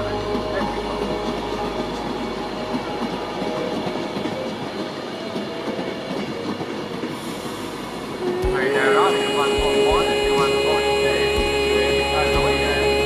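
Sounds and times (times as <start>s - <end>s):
electric train running on rails: 0.0s - 13.0s.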